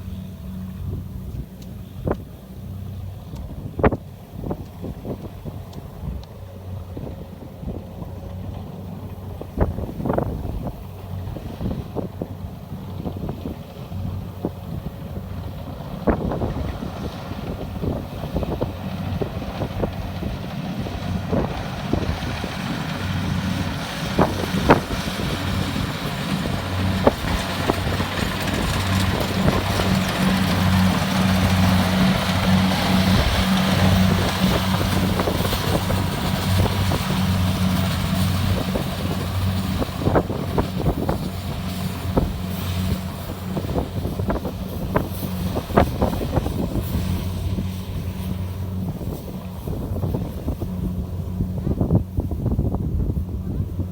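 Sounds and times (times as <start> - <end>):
combine harvester engine humming: 0.0 - 53.9.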